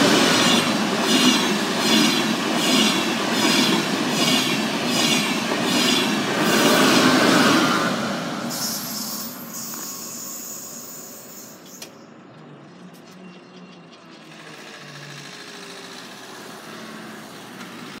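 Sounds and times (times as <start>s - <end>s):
train rolling noise: 0.0s - 18.0s.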